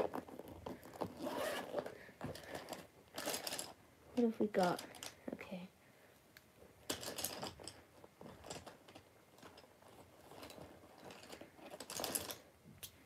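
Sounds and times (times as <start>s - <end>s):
small objects rummaged by hand: 0.0s - 5.2s, 6.8s - 12.5s.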